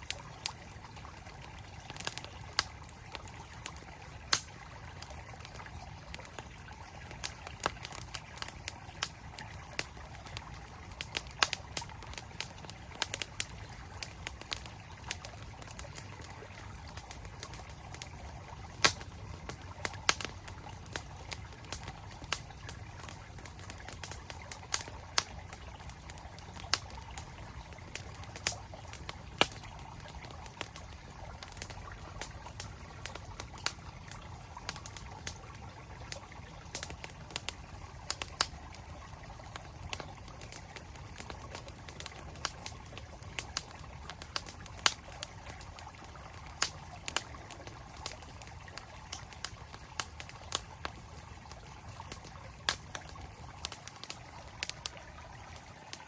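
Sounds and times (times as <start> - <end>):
campfire crackling and popping: 0.0 - 56.0
flowing stream: 0.0 - 56.0.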